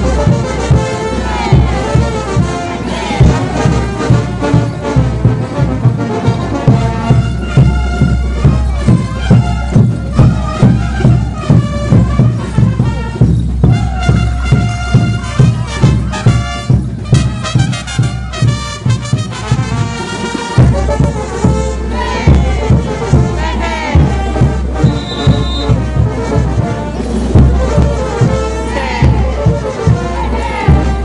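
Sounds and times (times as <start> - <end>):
brass band playing: 0.0 - 31.0.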